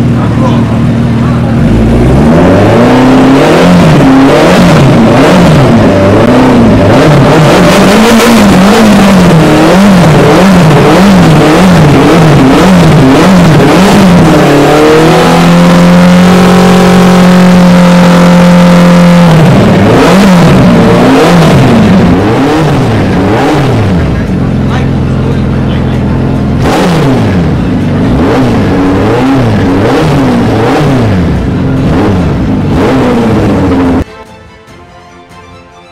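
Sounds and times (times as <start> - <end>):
motorcycle engine revving: 0.0 - 34.1.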